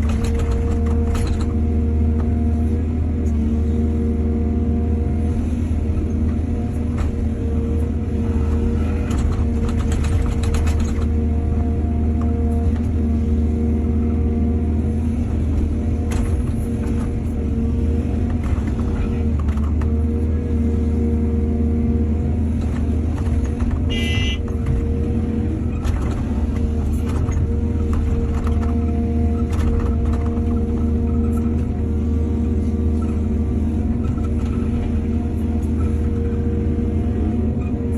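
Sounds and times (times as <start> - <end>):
excavator diesel engine humming: 0.0 - 37.9.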